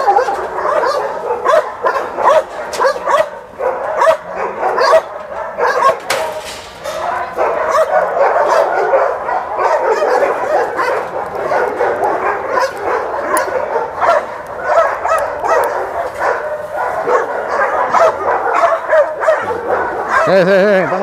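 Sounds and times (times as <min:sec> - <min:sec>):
dogs barking: 0:00.0 - 0:21.0.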